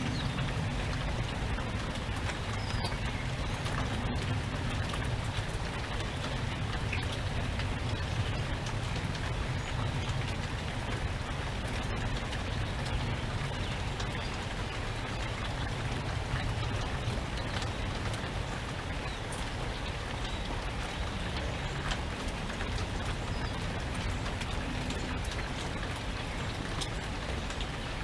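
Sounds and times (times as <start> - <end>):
steady rain with drop ticks: 0.0 - 28.0.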